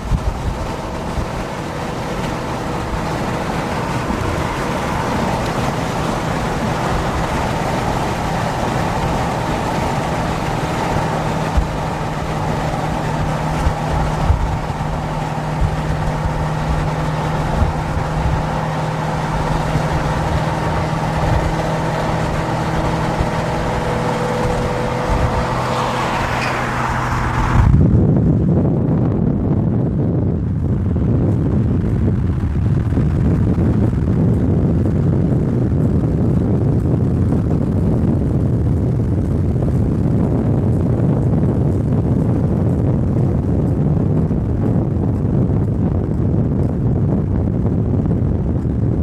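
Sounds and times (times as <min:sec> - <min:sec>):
car engine drone: 0:00.0 - 0:49.0
road and wind noise: 0:00.0 - 0:49.0.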